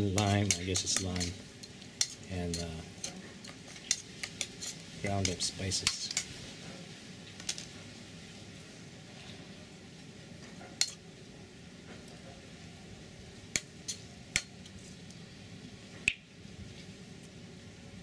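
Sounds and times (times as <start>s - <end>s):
low steady background hiss: 0.0s - 18.0s.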